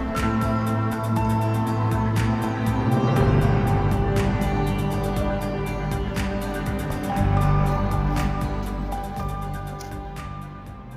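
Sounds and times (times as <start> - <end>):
background music with sustained tones: 0.0 - 10.9
light percussion beat: 0.0 - 10.9.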